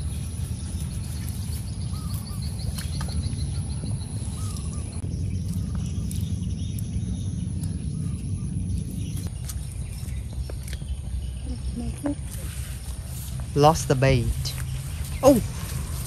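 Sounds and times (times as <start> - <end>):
bird chirping: 0.0 - 16.0
steady low rumble: 0.0 - 16.0.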